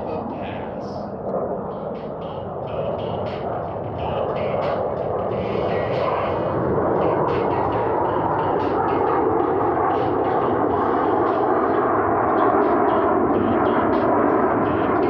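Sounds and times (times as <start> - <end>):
faint whine falling in pitch: 0.0 - 15.0
jet engines roaring: 0.0 - 15.0.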